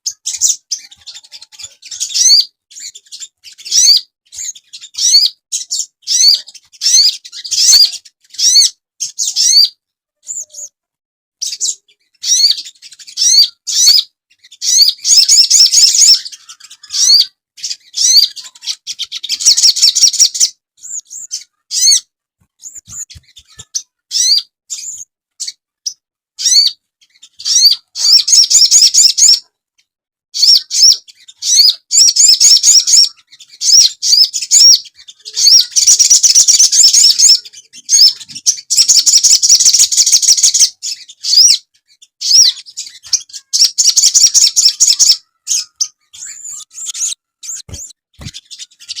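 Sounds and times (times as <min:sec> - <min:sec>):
bird twittering and chirping: 0:00.0 - 0:10.8, 0:11.4 - 0:29.5, 0:30.4 - 0:49.0.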